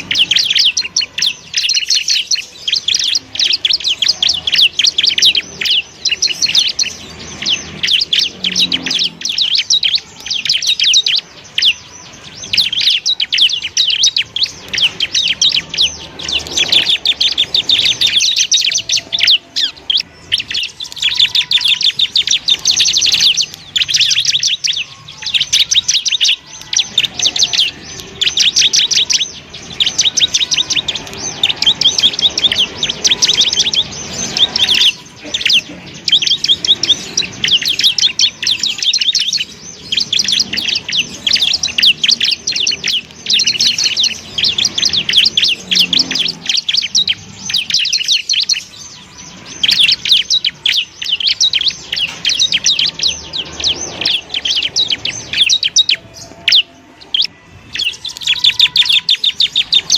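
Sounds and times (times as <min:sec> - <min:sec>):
bird singing rapid chattering trills: 0:00.0 - 0:59.9.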